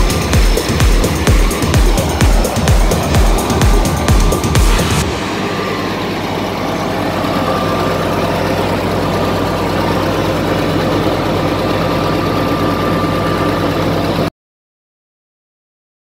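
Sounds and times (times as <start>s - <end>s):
bulldozer diesel engine idling: 0.0s - 14.3s.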